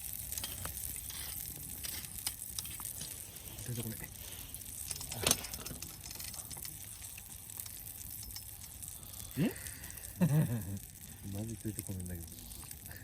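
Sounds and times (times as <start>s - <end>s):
campfire crackling and popping: 0.0s - 13.0s
faint steady hiss: 0.0s - 13.0s.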